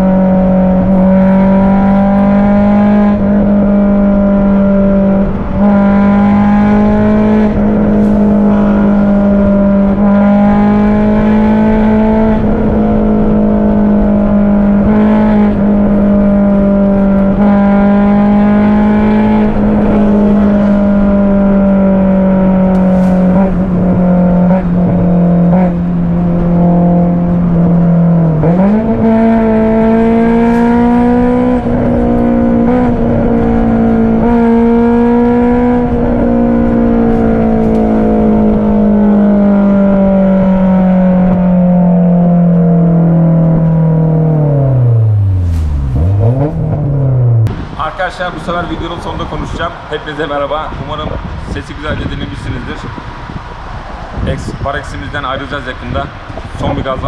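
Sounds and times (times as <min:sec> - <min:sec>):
car engine cruising: 0:00.0 - 0:57.0
tyre and wind noise: 0:00.0 - 0:57.0.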